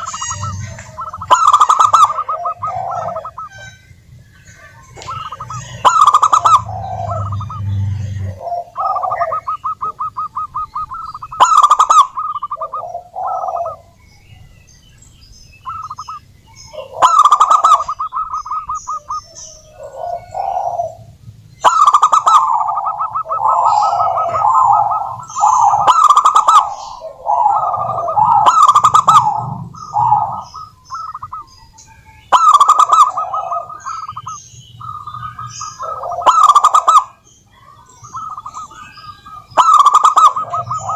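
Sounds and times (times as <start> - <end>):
dove cooing: 0.0 - 14.5, 15.6 - 40.9.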